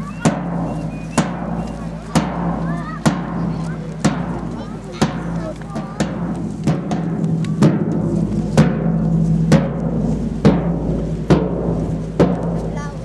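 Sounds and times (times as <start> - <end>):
field drum beaten slowly: 0.0 - 13.0.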